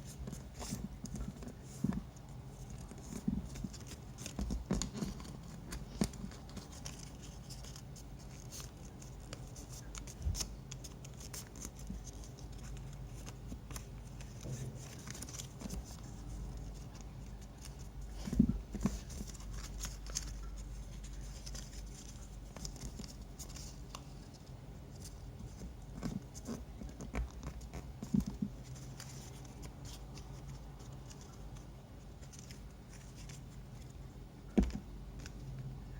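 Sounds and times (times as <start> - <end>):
paper rustling and folding: 0.0 - 35.6.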